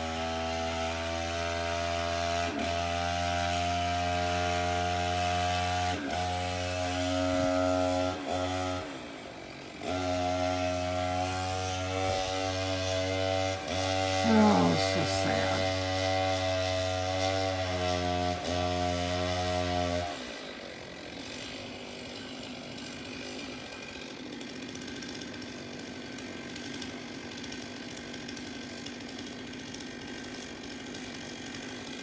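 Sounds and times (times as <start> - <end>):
distant chainsaw running: 0.0 - 32.0.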